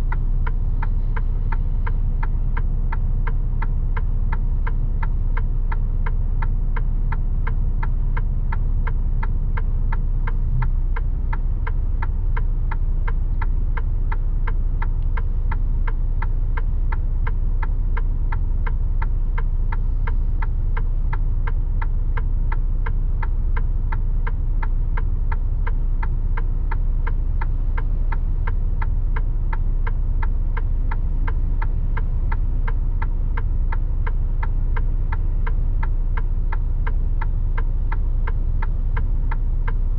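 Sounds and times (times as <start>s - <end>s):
truck diesel engine hum: 0.0s - 39.9s
turn signal ticking: 0.0s - 39.9s.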